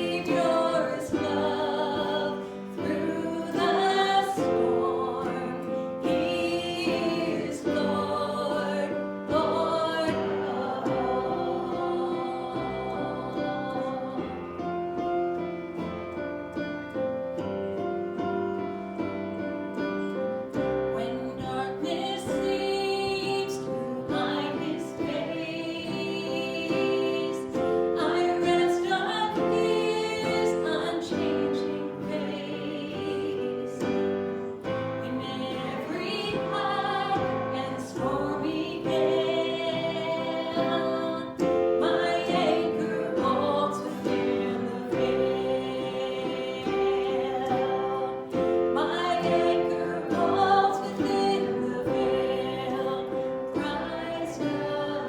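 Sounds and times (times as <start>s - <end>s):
voices singing worship song: 0.0s - 17.1s, 19.3s - 55.0s.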